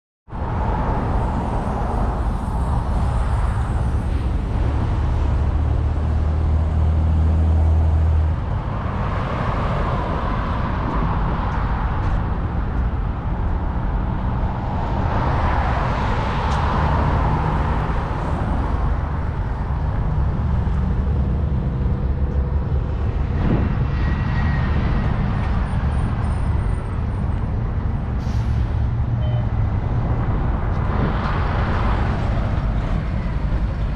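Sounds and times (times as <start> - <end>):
low traffic rumble: 0.3 - 33.9
vehicles passing: 0.3 - 33.9.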